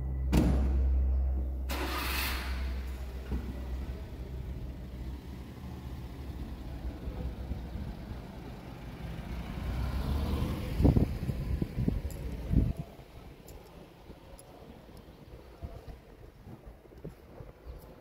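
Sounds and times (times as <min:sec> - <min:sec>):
car engine rumbling: 0:00.0 - 0:17.7.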